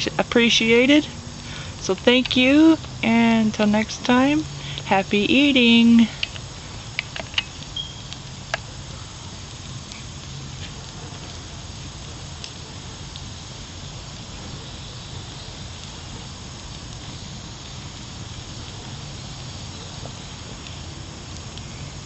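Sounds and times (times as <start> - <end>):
charcoal fire crackling: 0.0 - 22.0.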